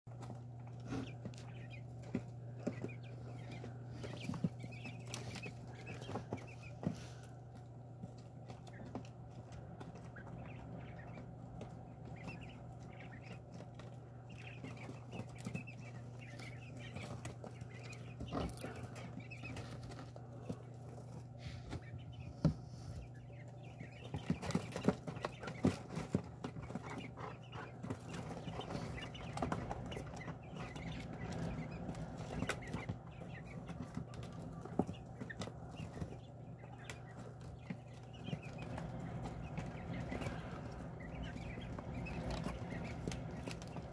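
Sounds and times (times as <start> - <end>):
quail chirping and clucking: 0.1 - 43.9
steady low hum: 0.1 - 43.9
taps and scratches in wood shavings: 0.1 - 43.9.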